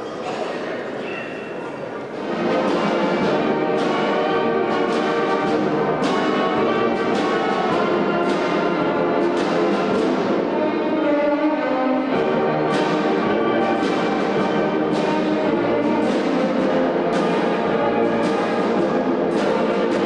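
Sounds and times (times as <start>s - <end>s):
percussion strokes: 2.1s - 20.0s
wind band playing: 2.1s - 20.0s.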